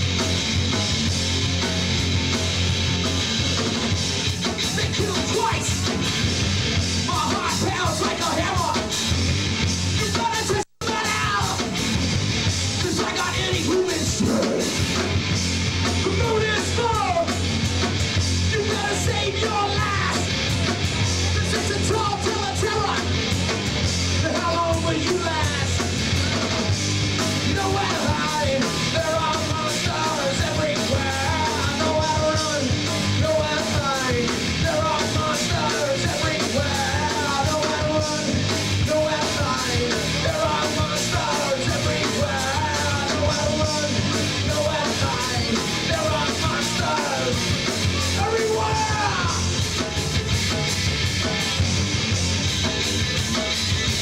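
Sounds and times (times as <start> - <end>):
punk rock band playing: 0.0 - 54.0.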